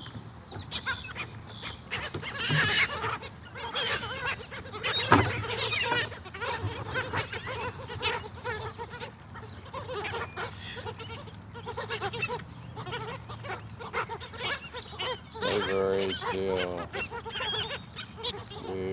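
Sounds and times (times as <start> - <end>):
seagulls calling: 0.0 - 18.9.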